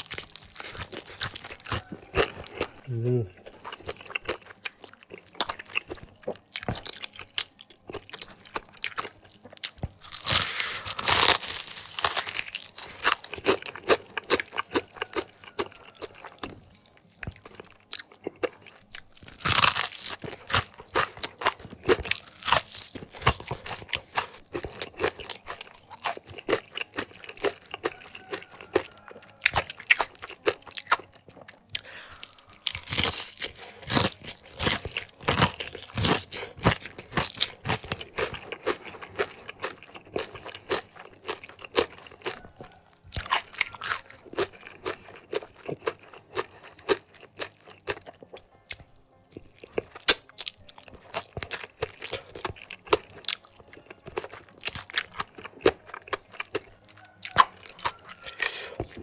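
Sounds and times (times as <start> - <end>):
crunchy food being chewed: 0.0 - 59.0.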